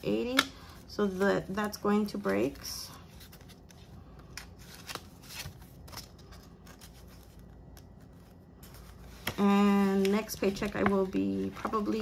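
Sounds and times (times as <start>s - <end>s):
paper banknotes rustling: 0.1s - 12.0s.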